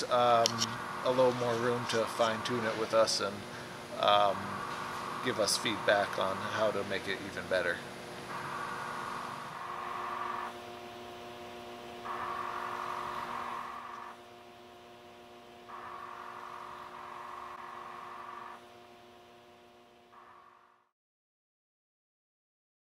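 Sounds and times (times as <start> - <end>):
ventilator motor whir: 0.0 - 20.8
steady hum: 0.0 - 20.9.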